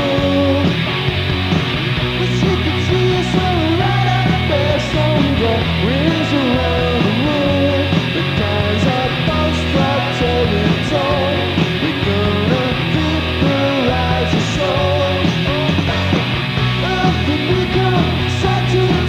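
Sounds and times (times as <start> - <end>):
man singing lead vocal: 0.0 - 0.8, 2.0 - 19.0
live rock band playing: 0.0 - 19.0.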